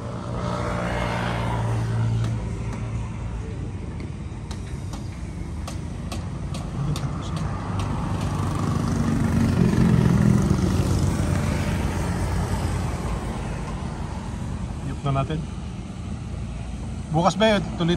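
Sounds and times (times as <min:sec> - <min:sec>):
vehicle engine hum passing: 0:00.0 - 0:17.9.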